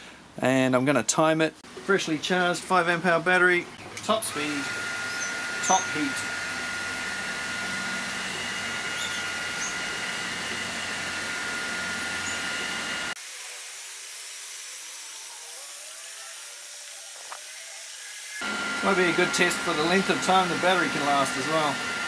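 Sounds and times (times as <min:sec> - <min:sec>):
heat gun blowing air: 0:04.1 - 0:22.0.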